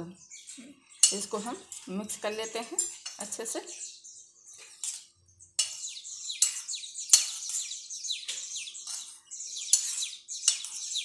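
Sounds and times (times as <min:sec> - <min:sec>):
metal spoon scraping a steel bowl: 0:00.8 - 0:03.5, 0:04.5 - 0:11.0.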